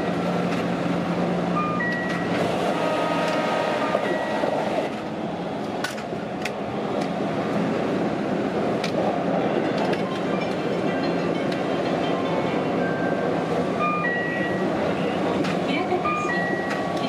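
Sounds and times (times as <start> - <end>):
train passing alongside: 0.0 - 17.0
train wheels rumbling on rail: 0.0 - 17.0.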